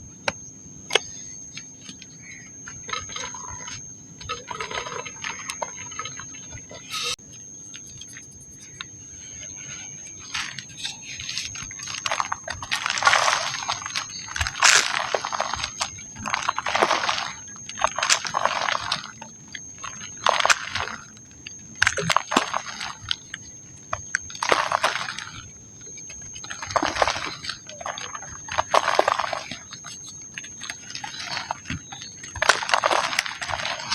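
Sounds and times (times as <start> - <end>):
thin steady high tone: 0.0 - 33.9.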